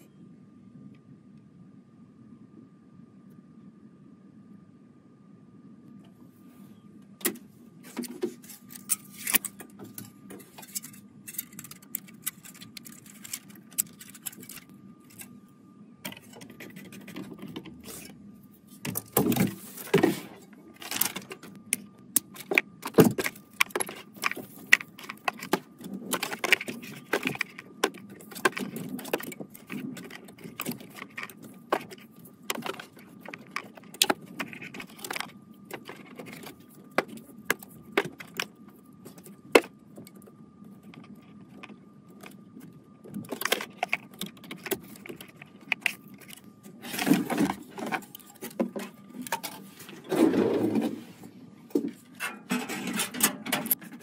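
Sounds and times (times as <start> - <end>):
computer parts clicking and rattling: 7.2 - 15.3, 16.0 - 18.1, 18.8 - 50.8, 51.7 - 54.0.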